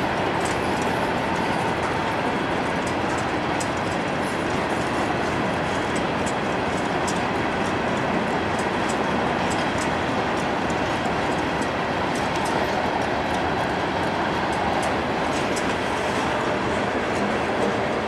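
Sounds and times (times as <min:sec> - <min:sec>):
train wheels rumbling and rattling: 0:00.0 - 0:18.0.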